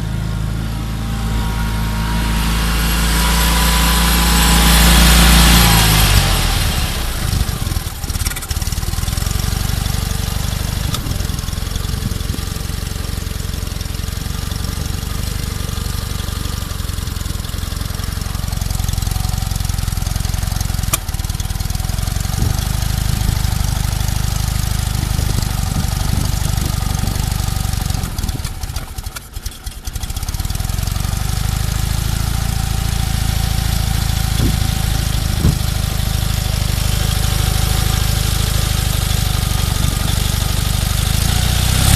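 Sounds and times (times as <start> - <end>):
small car engine idling: 0.0 - 41.9.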